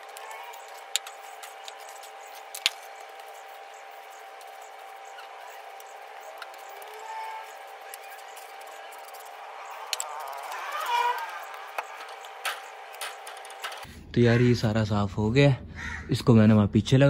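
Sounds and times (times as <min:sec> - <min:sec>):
debris ticking: 0:00.0 - 0:13.9.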